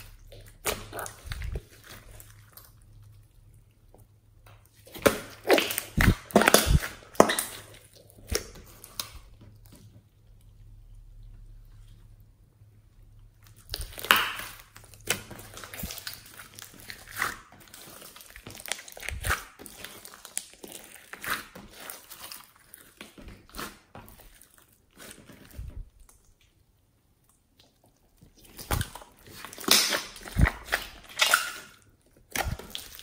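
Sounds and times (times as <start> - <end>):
slime squished by hand: 0.0 - 4.0, 4.6 - 10.1, 13.4 - 33.0.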